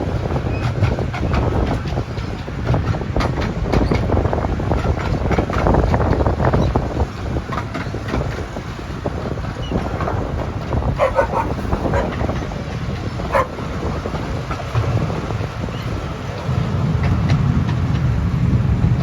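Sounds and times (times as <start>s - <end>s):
train wheels rumbling: 0.0s - 19.0s
wind on microphone: 0.0s - 19.0s.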